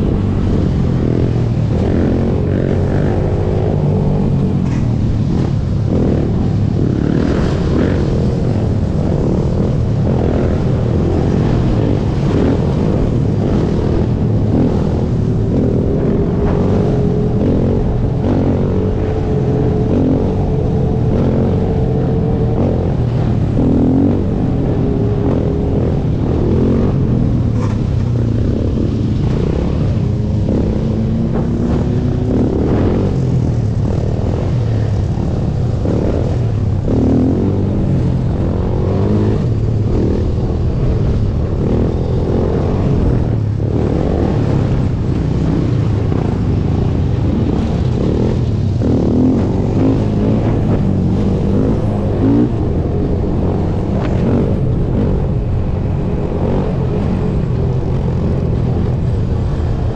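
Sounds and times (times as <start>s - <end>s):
atv engine revving: 0.0s - 59.9s
other dirt bikes running: 0.0s - 59.9s
wind and road noise: 0.0s - 59.9s.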